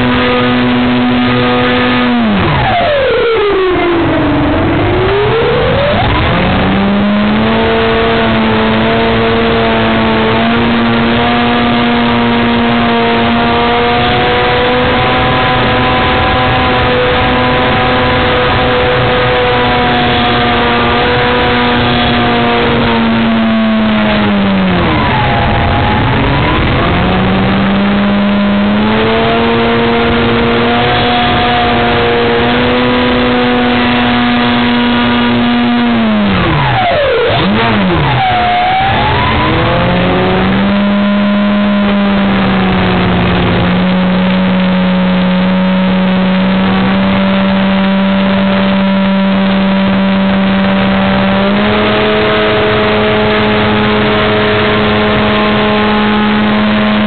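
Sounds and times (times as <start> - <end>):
electric motor and propeller whine: 0.0 - 51.9.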